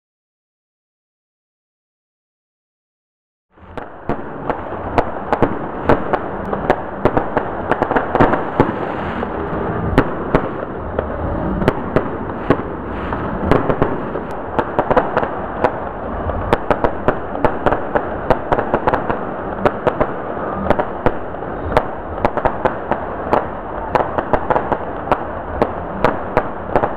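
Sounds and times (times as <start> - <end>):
fireworks bangs and pops: 3.6 - 26.9
fireworks crackle: 3.6 - 26.9.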